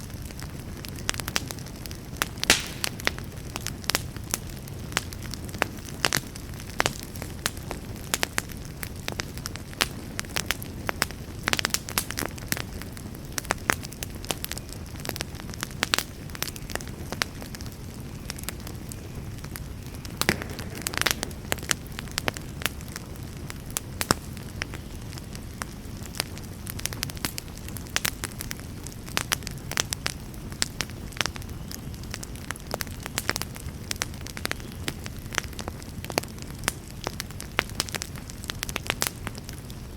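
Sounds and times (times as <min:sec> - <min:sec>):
flames rushing: 0:00.0 - 0:39.9
wood fire crackling and popping: 0:00.0 - 0:39.9.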